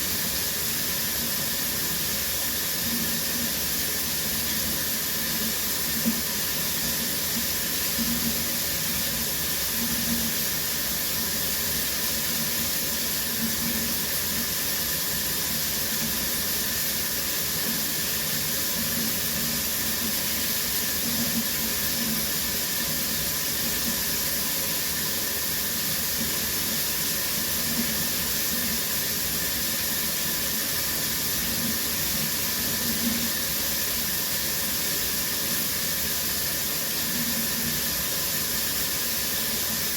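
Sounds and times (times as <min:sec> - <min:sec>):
shower spray hissing: 0:00.0 - 0:39.9.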